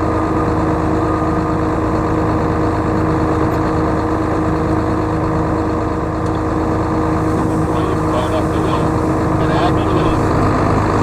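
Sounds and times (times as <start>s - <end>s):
tractor engine running: 0.0s - 11.0s
steady whine: 0.1s - 11.0s.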